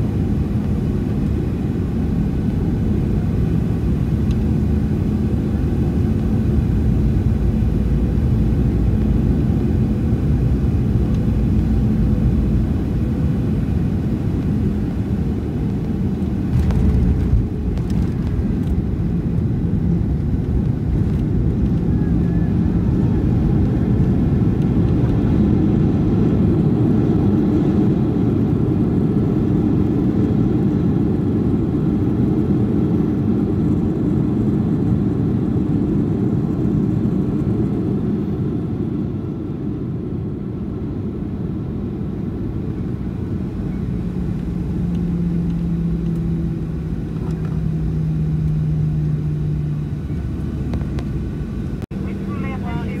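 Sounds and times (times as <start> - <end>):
jet engines rumbling: 0.0 - 53.0.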